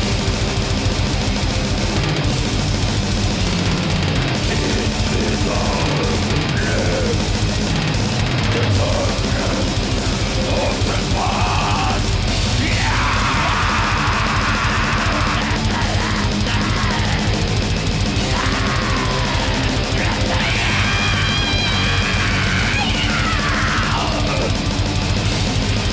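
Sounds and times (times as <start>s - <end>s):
metal band playing: 0.0s - 25.9s.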